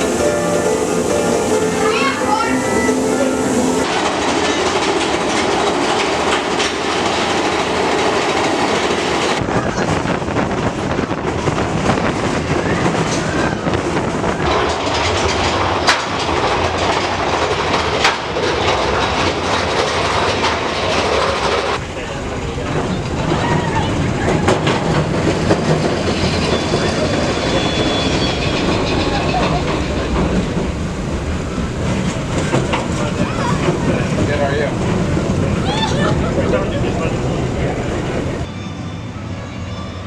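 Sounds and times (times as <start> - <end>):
rail cars clattering on track: 0.0 - 40.0.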